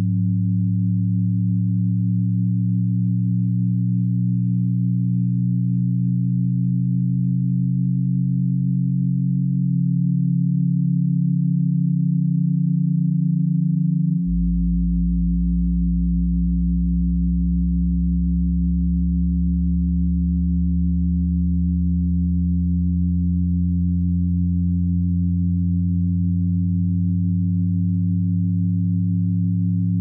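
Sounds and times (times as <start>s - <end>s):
electronic drone of low tones: 0.0s - 30.0s.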